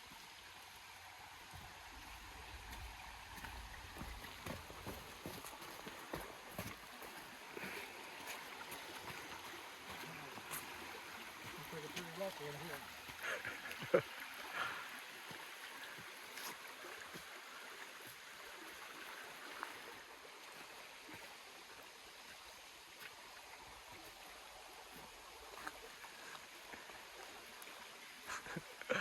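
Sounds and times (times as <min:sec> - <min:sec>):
stream flowing: 0:00.0 - 0:29.0.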